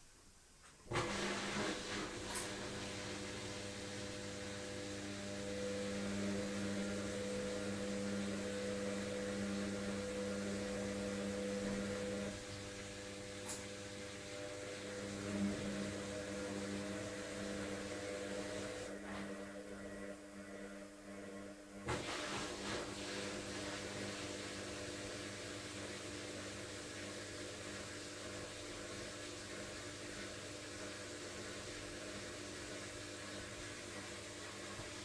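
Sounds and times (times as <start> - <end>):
washing machine spinning: 0.9 - 19.7, 21.9 - 35.0.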